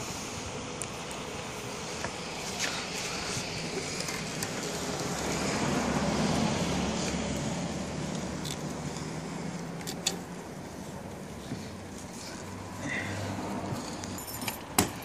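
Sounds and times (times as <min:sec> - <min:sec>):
wheels rumbling on asphalt: 0:00.0 - 0:15.0.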